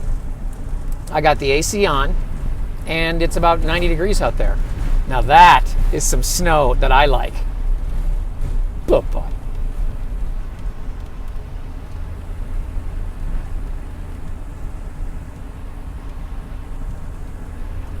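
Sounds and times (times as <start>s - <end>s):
air conditioning running: 0.0s - 18.0s
low road rumble in car: 0.0s - 18.0s.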